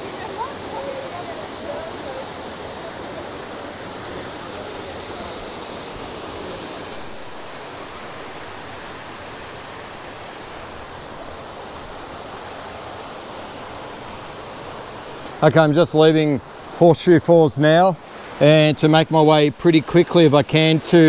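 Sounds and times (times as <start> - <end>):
waterfall roaring into creek: 0.0 - 21.0.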